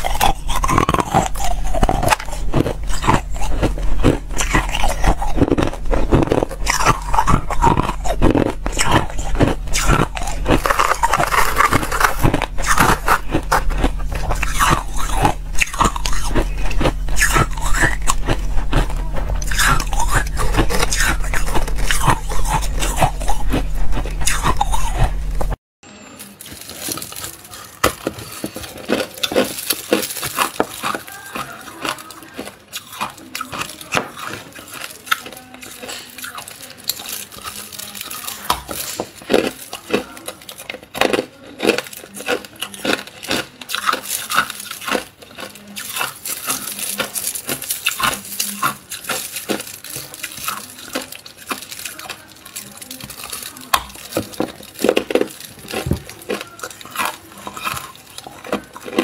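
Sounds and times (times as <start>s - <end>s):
ice being crunched: 0.0s - 25.1s, 26.2s - 59.0s.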